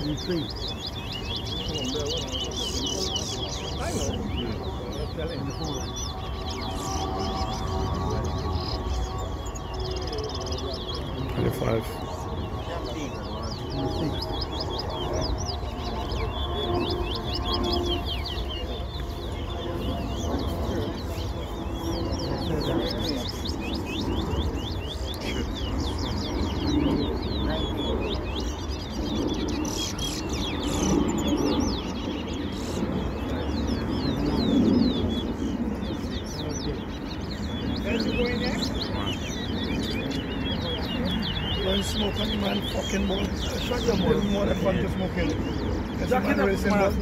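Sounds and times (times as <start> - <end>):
finch singing whistled notes: 0.0 - 46.9.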